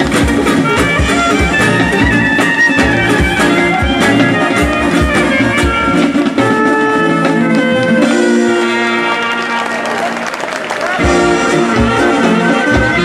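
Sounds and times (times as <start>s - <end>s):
drum beat: 0.0s - 9.3s, 11.0s - 13.0s
clarinet: 0.0s - 10.4s, 11.0s - 13.0s
brass band playing folk music: 0.0s - 13.0s.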